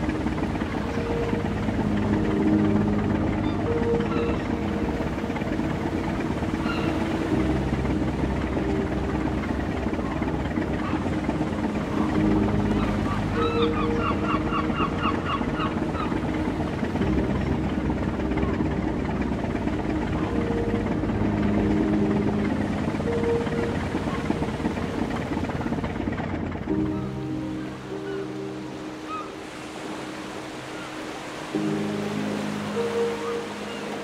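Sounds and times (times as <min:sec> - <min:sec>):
bird calling: 0:00.0 - 0:26.0, 0:26.8 - 0:34.0
ship engines droning: 0:00.0 - 0:34.0.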